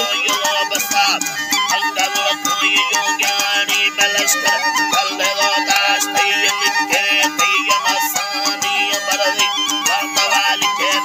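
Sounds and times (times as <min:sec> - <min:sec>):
man singing: 0:00.0 - 0:11.0
plucked or struck notes: 0:00.0 - 0:11.0
stringed instrument playing: 0:00.0 - 0:11.0
wooden flute: 0:00.0 - 0:11.0.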